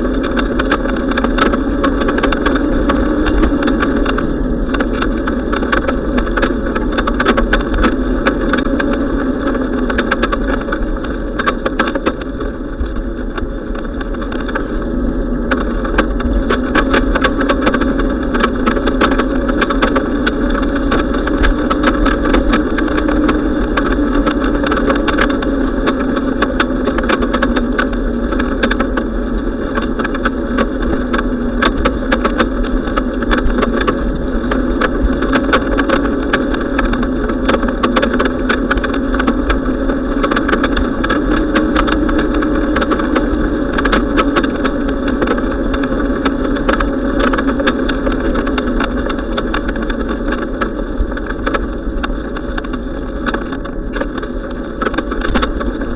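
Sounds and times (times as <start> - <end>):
bicycle rushing noise: 0.0 - 55.9
road noise: 0.0 - 55.9
sharp clicks and rattles: 0.0 - 55.9
wind on microphone: 0.0 - 55.9.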